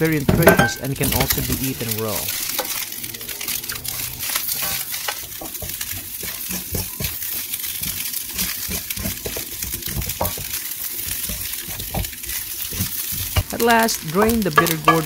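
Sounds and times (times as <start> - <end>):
rice sizzling in a wok: 0.0 - 15.0
spatula scraping metal pan: 0.4 - 15.0.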